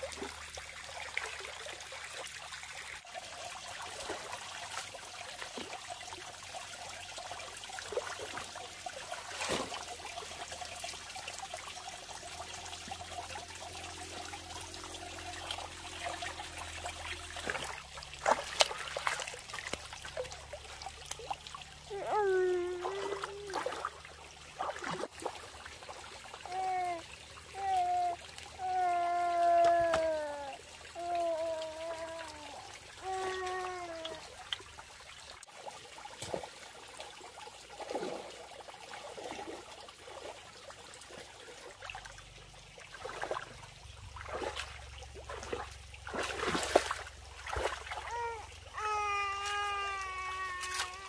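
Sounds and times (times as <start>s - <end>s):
water trickling: 0.0s - 51.0s.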